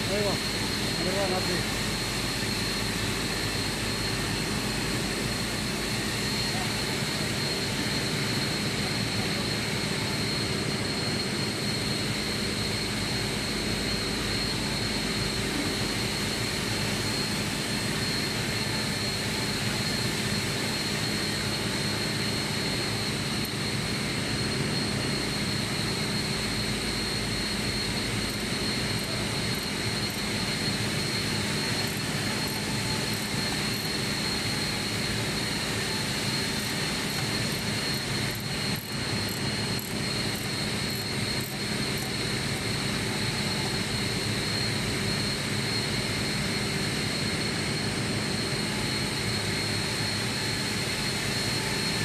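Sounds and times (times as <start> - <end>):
high-pitched whine: 0.0 - 52.0
industrial machinery drone: 0.0 - 52.0.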